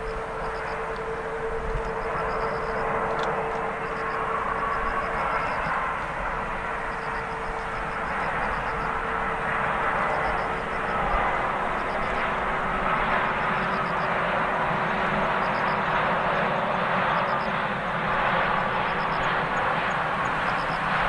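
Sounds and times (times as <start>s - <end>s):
jet engine noise: 0.0s - 21.0s.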